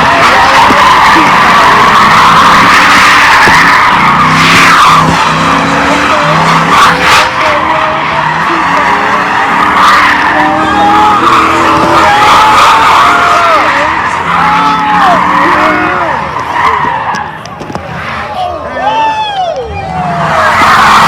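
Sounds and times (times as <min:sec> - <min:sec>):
car engine revving: 0:00.0 - 0:18.3
car tires squealing: 0:00.0 - 0:21.0.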